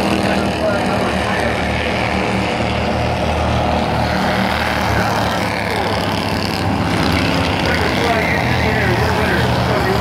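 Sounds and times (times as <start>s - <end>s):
small race car engines: 0.0s - 10.0s.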